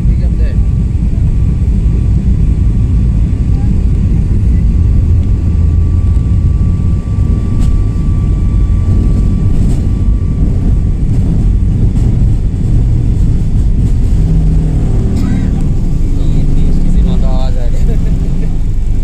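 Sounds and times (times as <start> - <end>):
faint steady whine: 0.0 - 19.0
jet engines deep rumble: 0.0 - 19.0.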